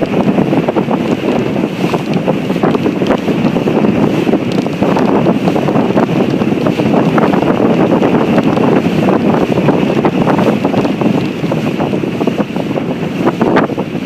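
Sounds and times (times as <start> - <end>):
boat rushing through water: 0.0 - 14.0
wind buffeting microphone: 0.0 - 14.0.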